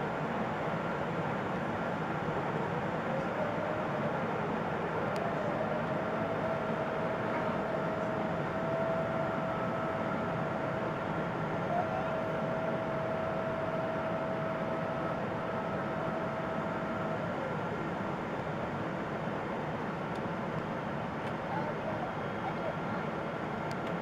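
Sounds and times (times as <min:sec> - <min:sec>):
airplane cabin air and engine noise: 0:00.0 - 0:24.0.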